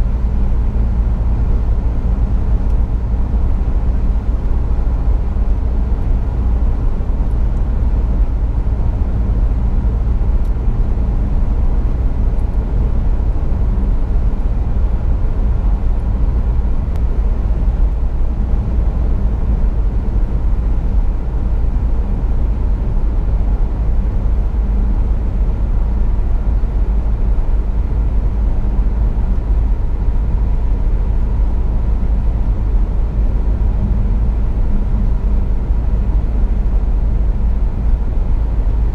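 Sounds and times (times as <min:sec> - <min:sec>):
car cabin road noise: 0:00.0 - 0:38.9.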